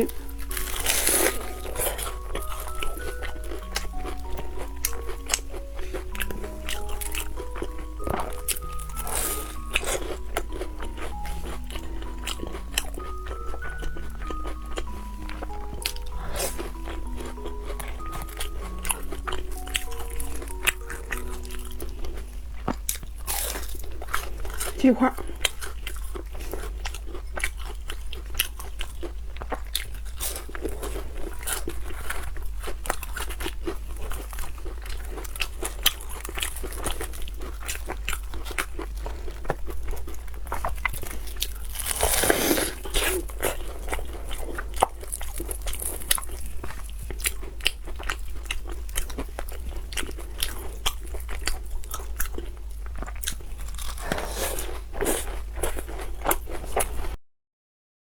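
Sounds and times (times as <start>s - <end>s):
crunching and chewing food: 0.0s - 57.2s.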